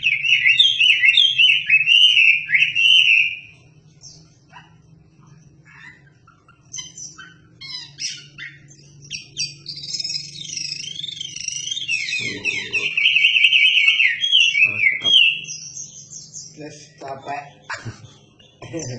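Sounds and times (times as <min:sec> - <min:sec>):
bird chirping and warbling: 0:00.0 - 0:18.9.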